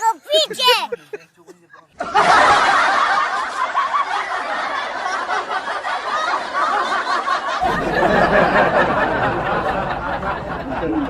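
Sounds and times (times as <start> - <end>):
people laughing: 0.2 - 11.0.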